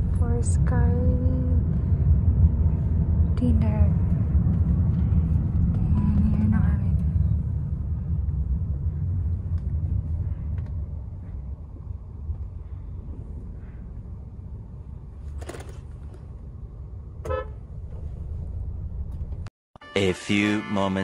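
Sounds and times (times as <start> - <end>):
road and engine rumble: 0.0 - 19.5.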